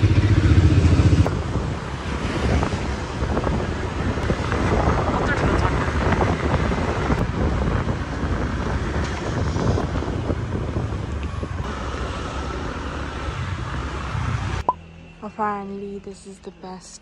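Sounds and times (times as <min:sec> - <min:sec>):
wind rushing over microphone: 0:00.0 - 0:14.7
scooter engine and road rumble: 0:00.0 - 0:16.0.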